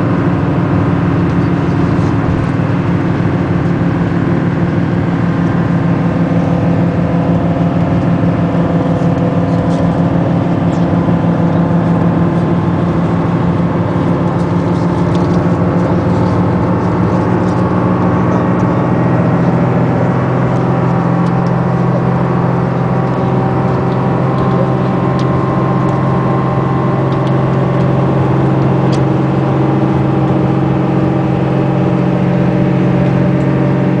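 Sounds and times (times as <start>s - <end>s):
vehicle engine and road hum: 0.0s - 34.0s.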